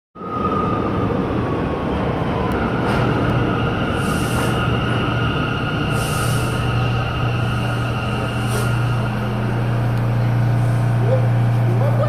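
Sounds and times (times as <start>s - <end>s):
subway train rumble and whine: 0.2s - 12.0s.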